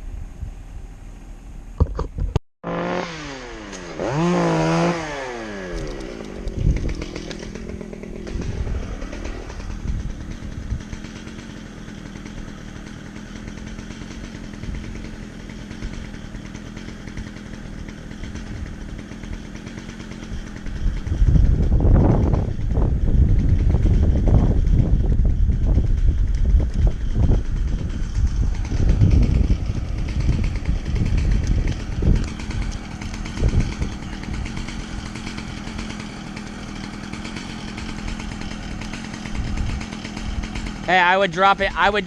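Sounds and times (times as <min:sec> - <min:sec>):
chainsaw revving: 0:02.6 - 0:42.0.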